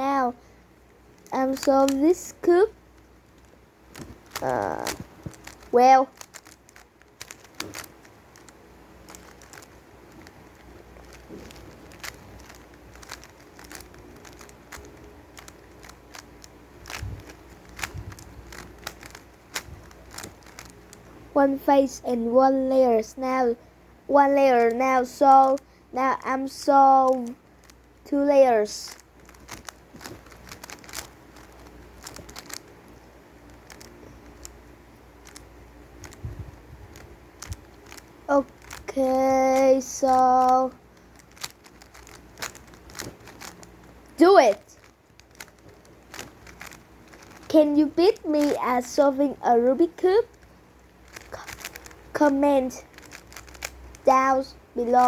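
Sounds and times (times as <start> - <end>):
puzzle cube clicking as twisted: 1.1 - 21.3, 24.2 - 55.0.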